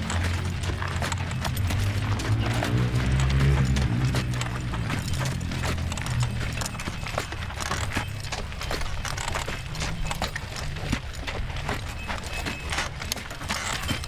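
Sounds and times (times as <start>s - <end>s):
horse hooves walking: 0.0s - 14.0s.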